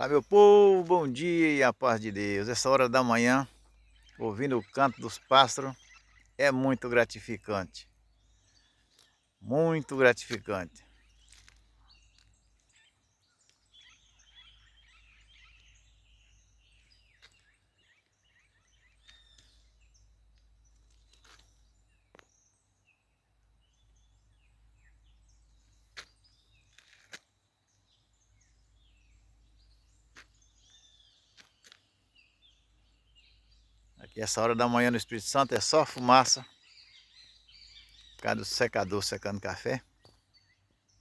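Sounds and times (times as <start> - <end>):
birds chirping and calling: 0.0 - 41.0.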